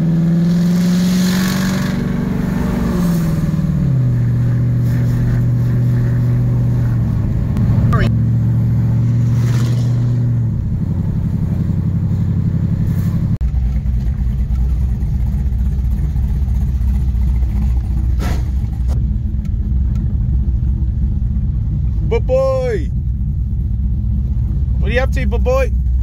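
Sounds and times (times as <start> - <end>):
car engine burbling: 0.0 - 26.0.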